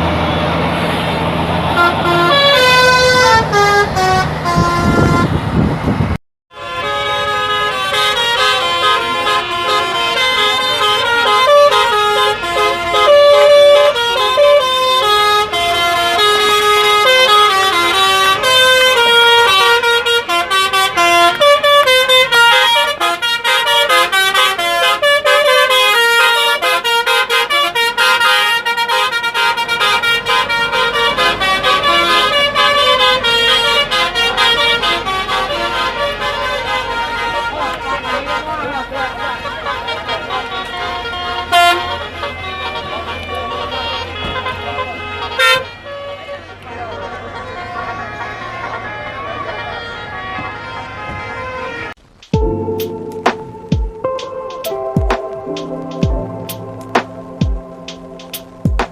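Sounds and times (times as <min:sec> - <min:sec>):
musical bus horn melodies: 0:00.0 - 0:58.9.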